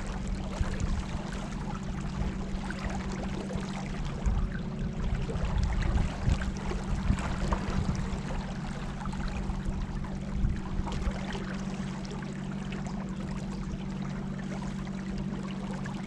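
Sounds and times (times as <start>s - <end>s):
steady low hum: 0.0s - 16.0s
water splashing around kayak: 0.0s - 16.0s.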